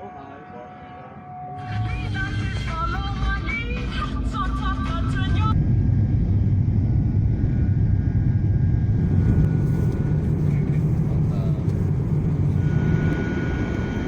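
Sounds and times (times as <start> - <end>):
vehicle rumble from inside: 1.9 - 14.0.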